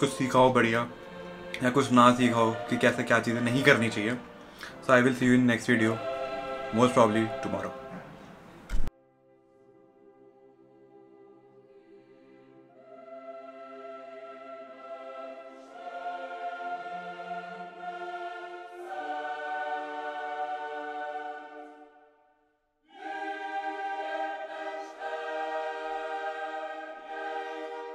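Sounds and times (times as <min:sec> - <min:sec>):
slow choir-like chords: 0:00.0 - 0:27.9.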